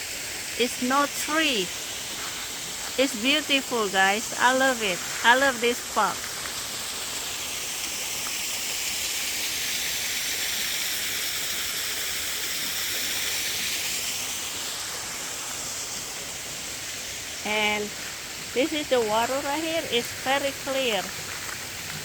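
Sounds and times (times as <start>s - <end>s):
small waterfall rushing: 0.0s - 22.0s.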